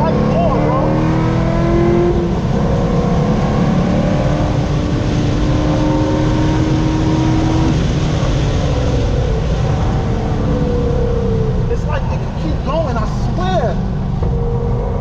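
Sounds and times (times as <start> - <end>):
road and wind noise: 0.0 - 15.0
sports car engine revving: 0.0 - 15.0.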